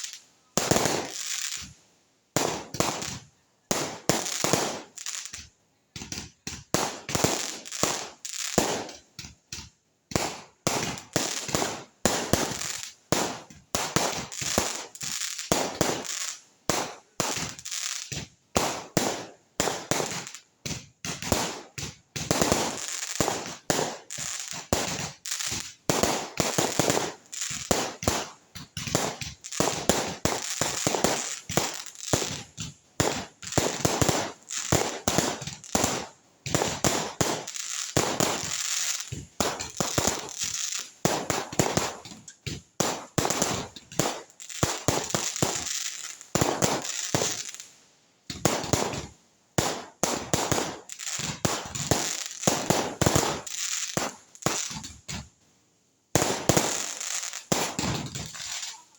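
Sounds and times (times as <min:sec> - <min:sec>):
fireworks bangs and crackling pops: 0:00.0 - 0:58.9.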